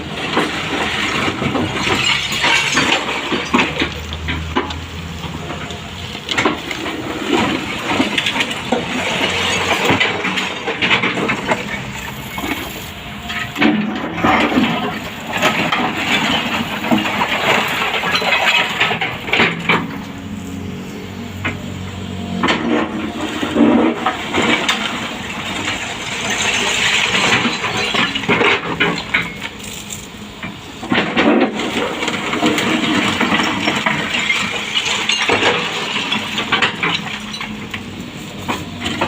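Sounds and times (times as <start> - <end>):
excavator engine running: 0.0 - 39.0
rubble crashing and clattering: 0.0 - 39.0.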